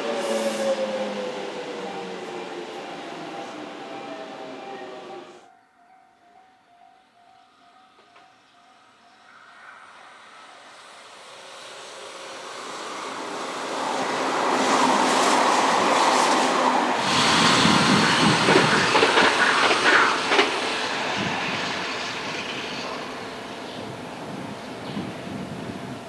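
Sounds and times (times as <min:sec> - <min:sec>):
electric train passing: 0:00.0 - 0:05.5, 0:06.3 - 0:26.0.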